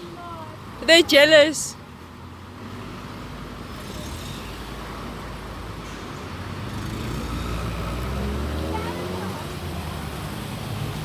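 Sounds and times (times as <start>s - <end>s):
cars driving past: 0.0s - 11.0s.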